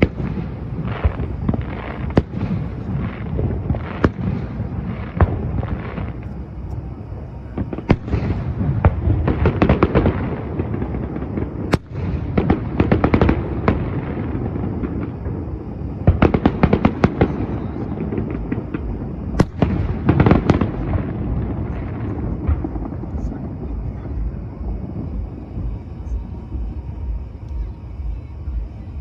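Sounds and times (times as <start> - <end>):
constant low rumble: 0.0 - 29.0
fireworks bangs: 0.0 - 29.0
fireworks crackling volleys: 0.0 - 29.0.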